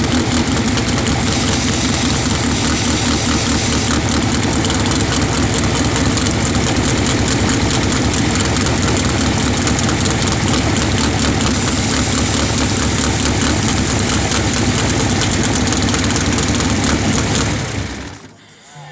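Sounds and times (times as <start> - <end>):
race car engine idling: 0.0 - 18.3.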